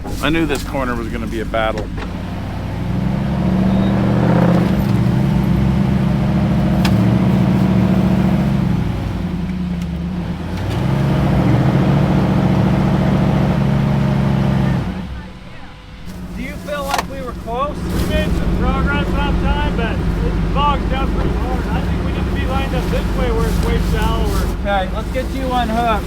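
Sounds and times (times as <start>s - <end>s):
vehicle engine revving under load: 0.0s - 26.0s.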